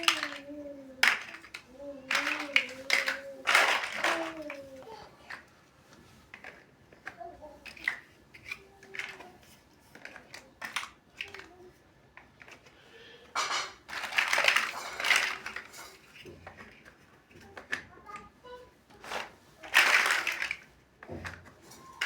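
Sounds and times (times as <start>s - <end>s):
plastic bricks clicking: 0.0s - 5.5s, 6.3s - 11.6s, 13.8s - 18.3s, 19.1s - 22.0s.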